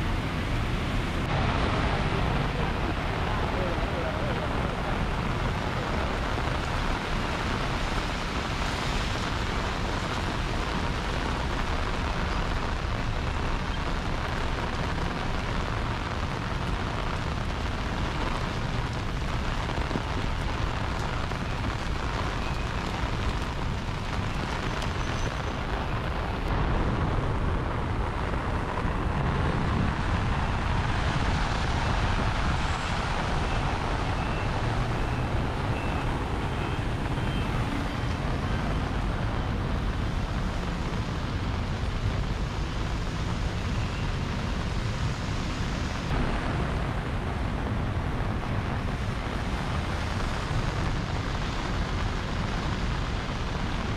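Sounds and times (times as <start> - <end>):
rain on street: 0.0 - 53.9
traffic passing: 0.0 - 53.9.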